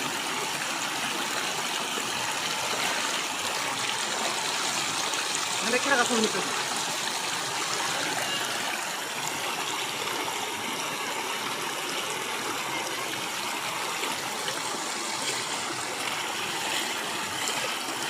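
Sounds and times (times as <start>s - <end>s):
flooded river rushing: 0.0s - 18.0s.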